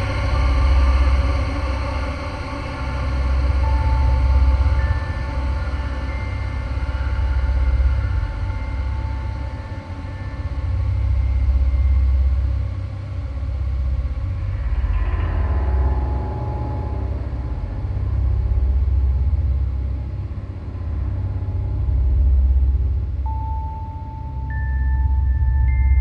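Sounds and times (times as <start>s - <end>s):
deep rumbling drone: 0.0s - 26.0s.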